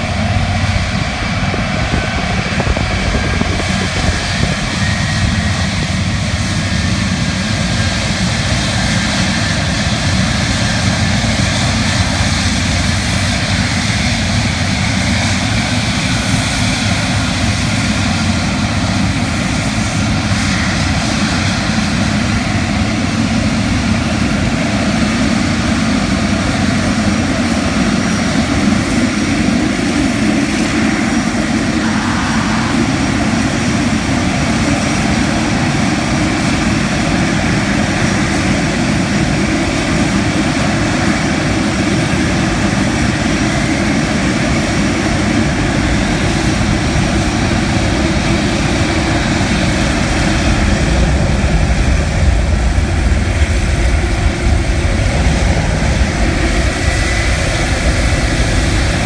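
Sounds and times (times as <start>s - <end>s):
jet airliner engines running: 0.0s - 59.0s.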